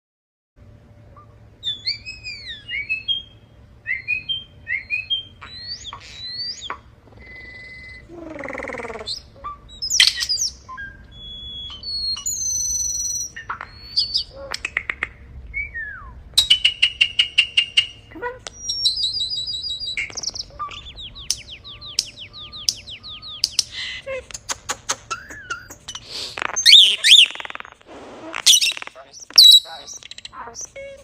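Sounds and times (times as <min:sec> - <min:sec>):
bird making electronic calls: 0:01.2 - 0:15.1, 0:16.4 - 0:24.0, 0:25.6 - 0:30.8.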